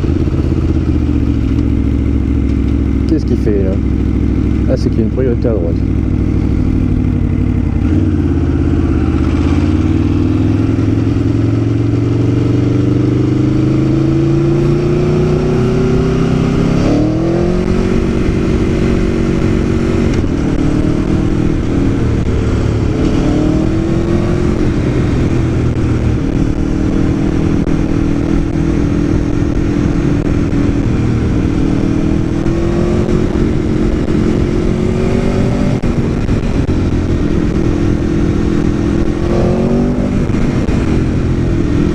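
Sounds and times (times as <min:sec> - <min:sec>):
motorcycle engine revving: 0:00.0 - 0:41.9
wind noise: 0:05.8 - 0:41.9.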